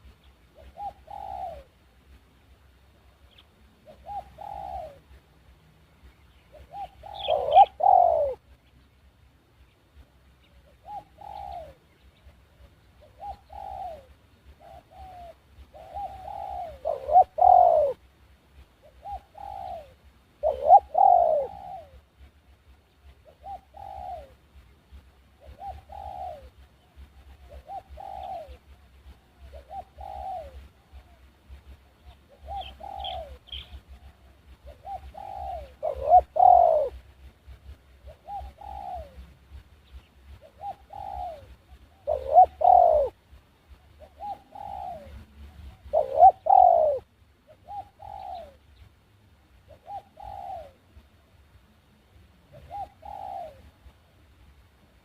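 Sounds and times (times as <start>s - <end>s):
doves cooing: 0.0s - 1.8s, 3.2s - 5.2s, 6.4s - 8.6s, 10.4s - 22.4s, 23.0s - 24.6s, 25.4s - 48.8s, 49.6s - 51.0s, 52.4s - 54.1s.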